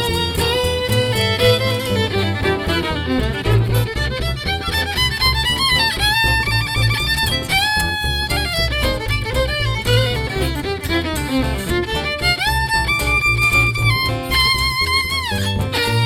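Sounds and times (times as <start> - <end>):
live band playing instrumental: 0.0 - 16.0.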